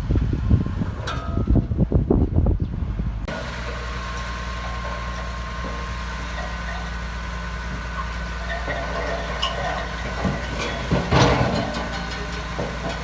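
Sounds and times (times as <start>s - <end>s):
heavy diesel engine humming: 0.0s - 13.0s
low rumbling and buffeting: 0.0s - 13.0s.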